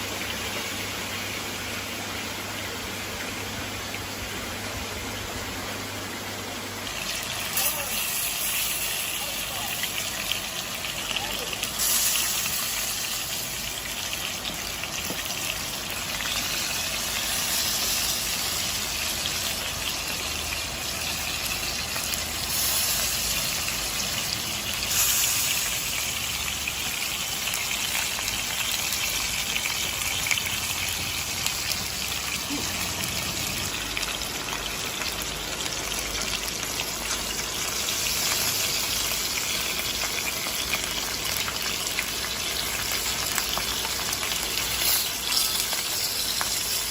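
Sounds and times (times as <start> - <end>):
steak sizzling in a frying pan: 0.0 - 46.9.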